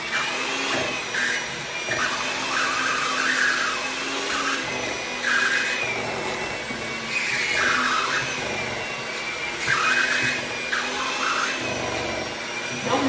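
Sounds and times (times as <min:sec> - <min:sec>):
electric hand mixer whirring: 0:00.0 - 0:13.0.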